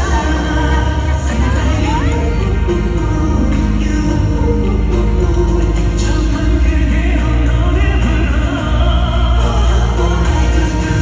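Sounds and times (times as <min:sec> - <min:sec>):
live band with heavy bass: 0:00.0 - 0:11.0
man singing: 0:00.0 - 0:11.0.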